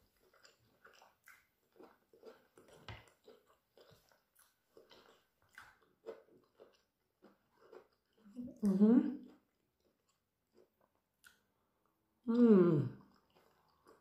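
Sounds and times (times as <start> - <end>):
chewing with mouth closed: 0.0 - 12.0, 12.9 - 14.0.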